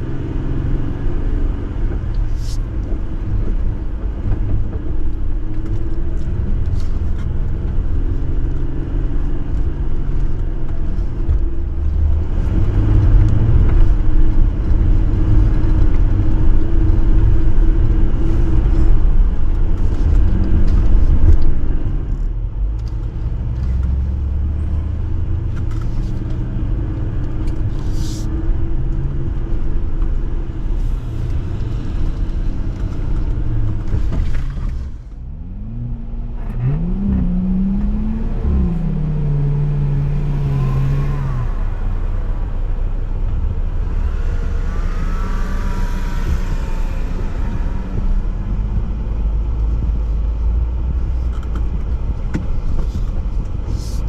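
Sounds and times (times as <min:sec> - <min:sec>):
vehicle engine rumbling offroad: 0:00.0 - 0:54.0.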